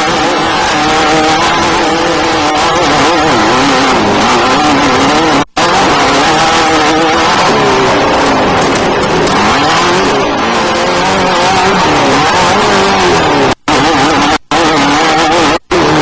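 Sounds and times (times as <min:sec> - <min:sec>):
race vehicle engine revving: 0:00.0 - 0:16.0
steady rushing noise: 0:00.0 - 0:16.0.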